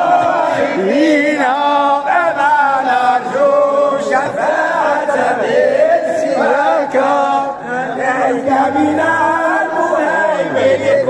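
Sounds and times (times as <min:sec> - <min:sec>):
men chanting unaccompanied: 0:00.0 - 0:11.0.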